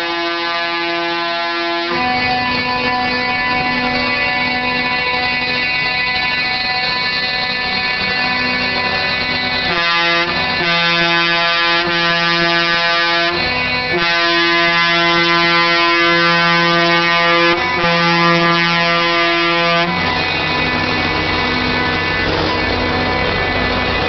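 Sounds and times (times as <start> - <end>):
truck air horn blasts: 0.0 - 24.0.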